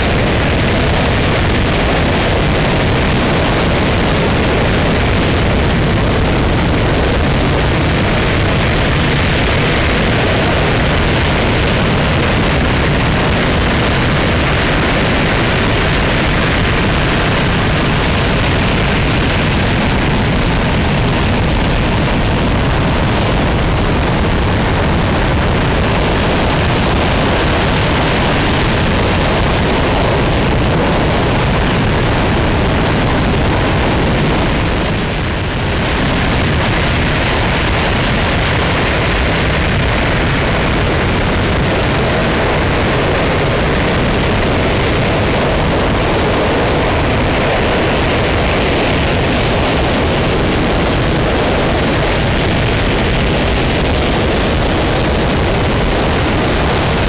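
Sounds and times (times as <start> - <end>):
rocket engine roaring: 0.0 - 57.0.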